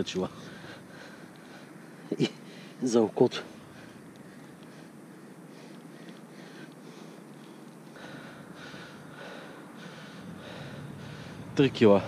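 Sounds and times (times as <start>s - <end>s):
person breathing: 0.3s - 2.8s, 3.4s - 11.6s.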